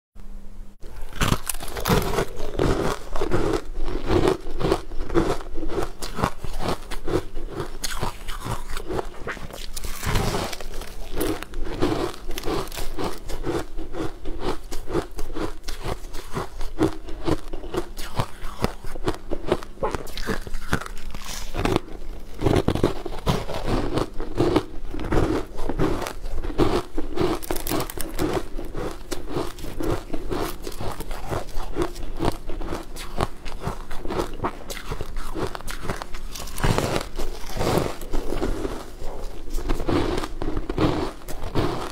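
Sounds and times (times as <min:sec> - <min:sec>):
crunching and chewing pastries: 0:00.8 - 0:41.9.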